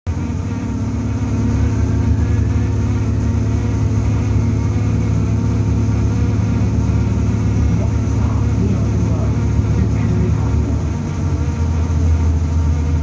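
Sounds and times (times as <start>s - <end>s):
bus low buzzing vibration: 0.0s - 13.0s
low drone: 0.1s - 13.0s.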